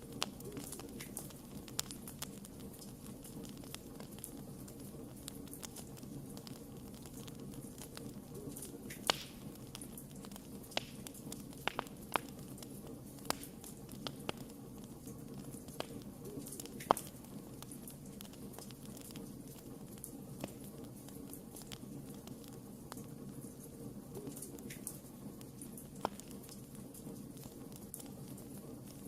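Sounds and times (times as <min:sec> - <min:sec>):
low hiss of burning: 0:00.0 - 0:29.0
wood fire crackling and popping: 0:00.0 - 0:29.0.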